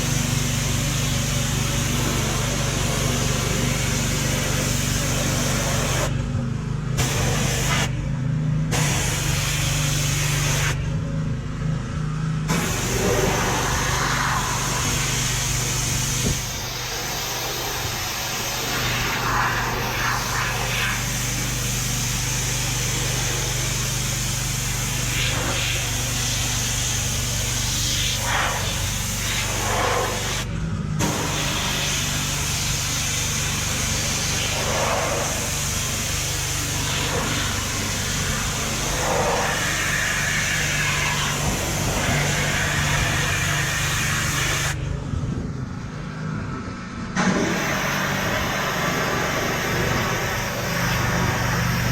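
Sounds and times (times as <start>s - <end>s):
pressure washer spraying: 0.0s - 6.2s, 7.0s - 8.0s, 8.7s - 10.8s, 12.5s - 44.8s, 47.2s - 51.9s
engine droning: 0.0s - 51.9s.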